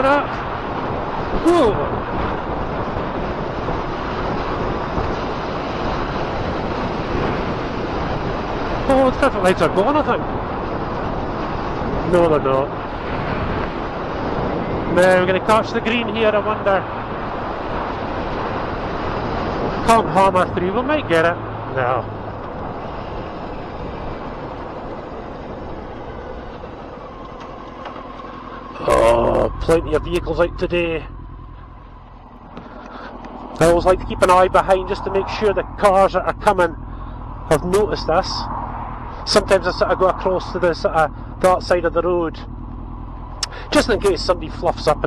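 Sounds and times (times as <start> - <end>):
motorcycle engine: 0.0 - 45.0
road noise: 0.0 - 45.0
wind rushing over microphone: 0.0 - 45.0.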